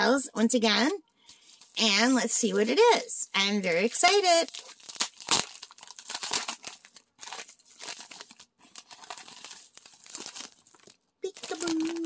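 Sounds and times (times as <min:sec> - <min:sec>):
plastic bag crinkling: 0:01.3 - 0:03.0, 0:03.6 - 0:12.0.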